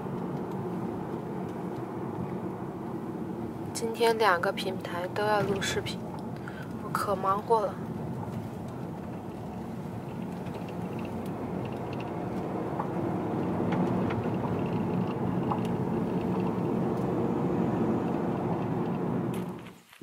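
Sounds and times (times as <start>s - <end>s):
road and engine noise in car: 0.0s - 20.0s.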